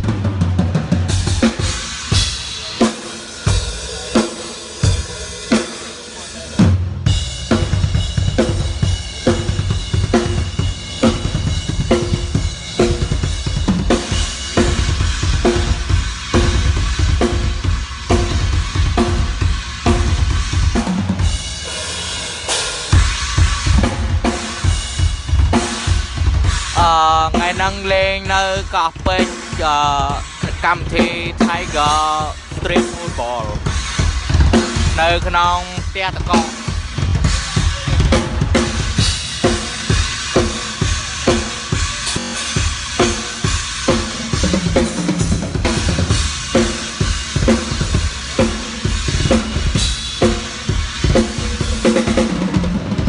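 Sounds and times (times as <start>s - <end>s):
drum kit groove: 0.0s - 53.0s.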